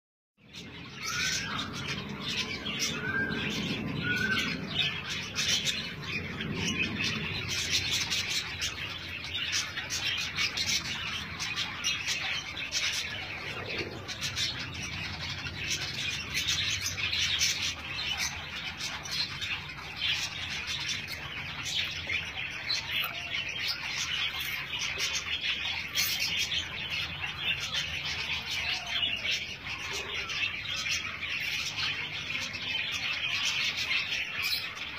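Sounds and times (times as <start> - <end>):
birds chirping: 0.4 - 34.9
rising bird calls: 0.8 - 33.4.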